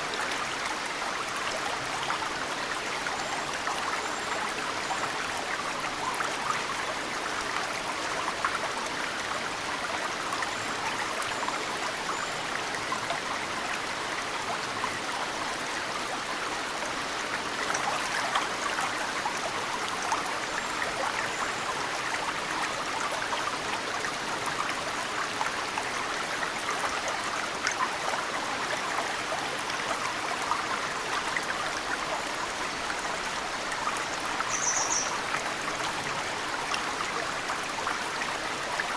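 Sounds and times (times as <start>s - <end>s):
mountain stream running: 0.0s - 38.9s.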